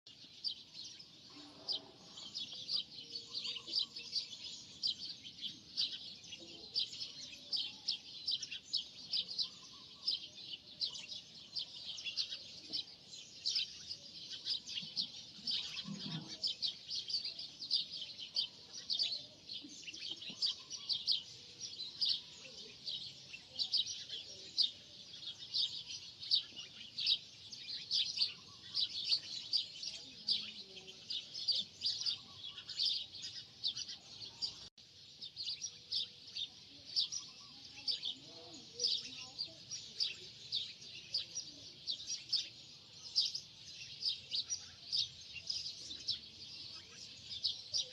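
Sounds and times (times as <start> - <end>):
birds chirping: 0.1 - 47.9.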